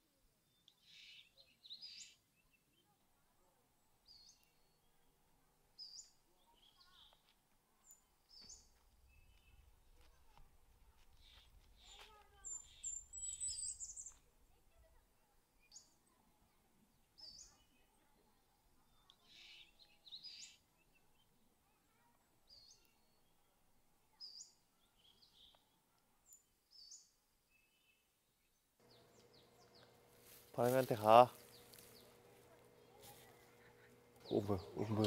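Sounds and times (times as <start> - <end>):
small birds chirping: 0.4 - 35.0.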